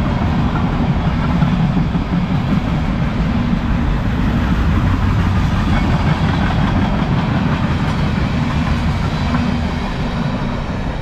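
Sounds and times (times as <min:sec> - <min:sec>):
train wheels clickety-clack: 0:00.0 - 0:11.0
train wheels rumbling on rails: 0:00.0 - 0:11.0.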